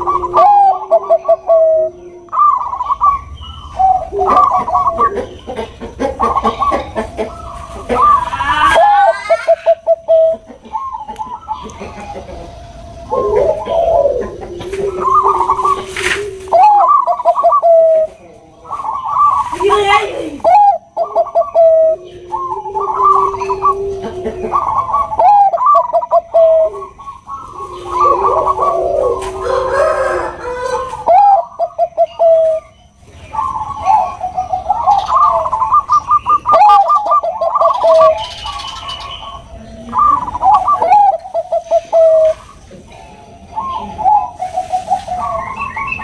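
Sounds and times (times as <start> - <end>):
doves cooing: 0.0 - 46.0.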